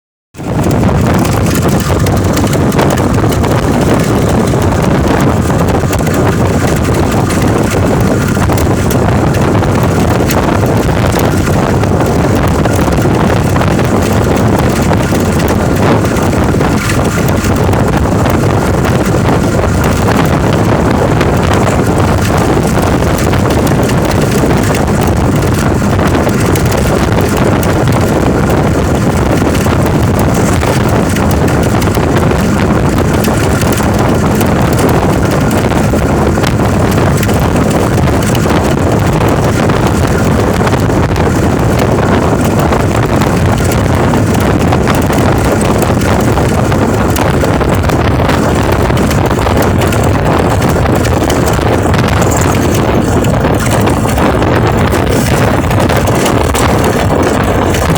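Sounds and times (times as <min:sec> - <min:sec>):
loud rumbling noise: 0:00.3 - 0:57.9
wind buffeting microphone: 0:00.3 - 0:57.9.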